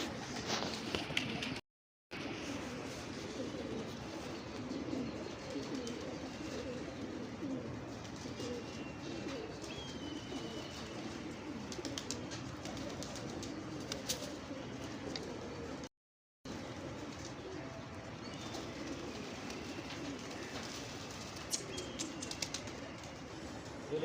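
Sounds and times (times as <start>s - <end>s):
pigeons cooing: 2.2s - 15.9s, 16.5s - 24.0s.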